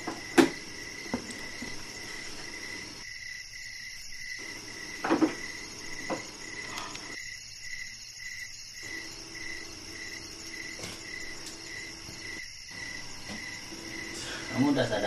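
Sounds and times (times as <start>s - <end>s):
high insect drone: 0.0s - 15.0s
insects chirping rhythmically: 0.0s - 15.0s.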